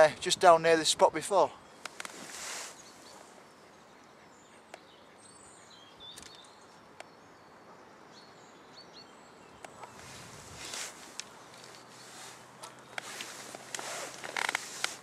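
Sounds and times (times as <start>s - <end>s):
open-air background hiss: 0.0s - 15.0s
small birds chirping: 1.4s - 15.0s.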